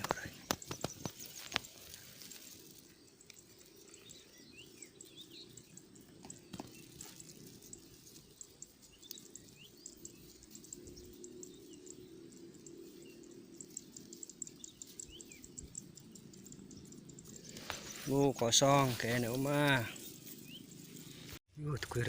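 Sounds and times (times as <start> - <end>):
crickets chirping: 0.0 - 21.3
bird chirps: 0.0 - 22.0.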